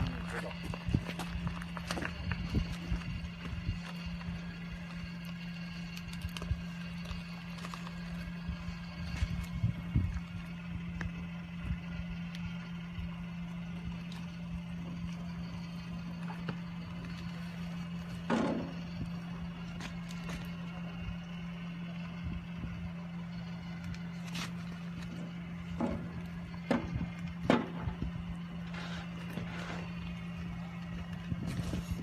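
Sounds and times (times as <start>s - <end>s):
machine humming: 0.0s - 32.0s.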